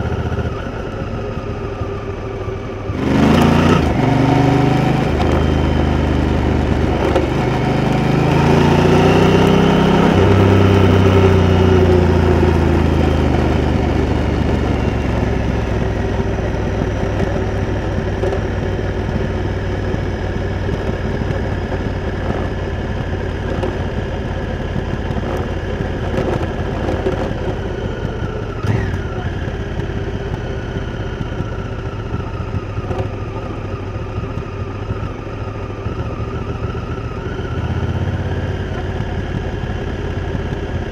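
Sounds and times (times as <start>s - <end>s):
motorcycle engine revving: 0.0s - 40.9s
gear change: 3.0s - 40.9s.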